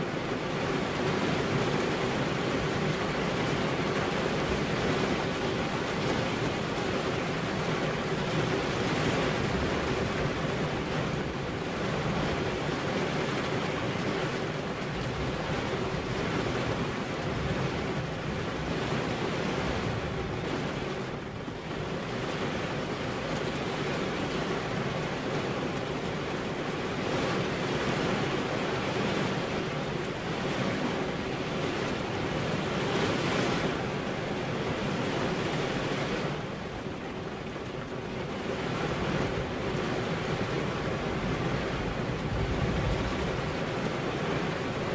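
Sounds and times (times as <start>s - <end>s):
heavy rain on window glass: 0.0s - 44.9s.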